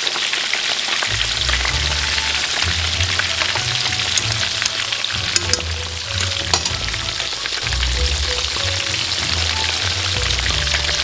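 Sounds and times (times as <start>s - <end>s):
cutlet sizzling in hot oil: 0.0s - 11.0s
oil popping: 0.8s - 11.0s.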